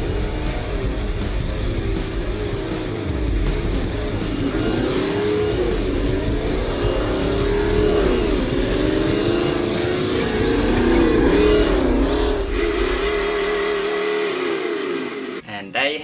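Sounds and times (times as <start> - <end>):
simulated engine revving: 0.0 - 15.4
background music: 0.0 - 16.0.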